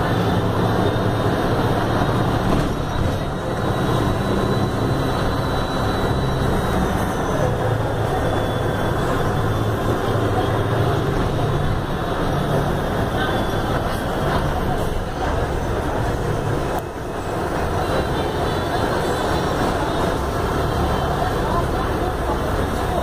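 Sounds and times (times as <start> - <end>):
bus diesel engine running: 0.0 - 23.0
road noise: 0.0 - 23.0.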